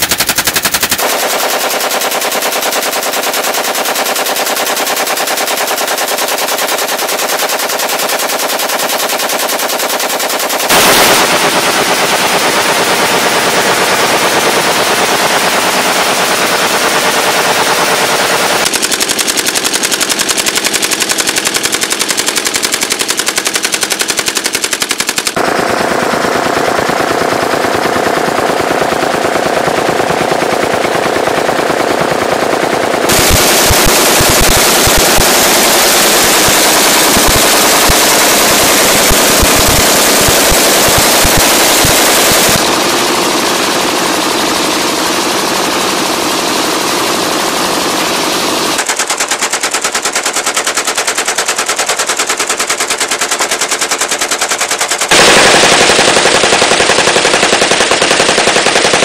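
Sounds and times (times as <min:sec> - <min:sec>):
automatic gunfire: 0:00.0 - 0:59.0.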